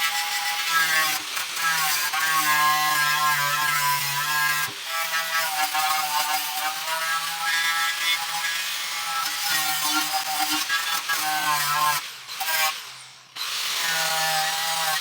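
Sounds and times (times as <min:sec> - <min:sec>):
angle grinder motor: 0:00.0 - 0:15.0.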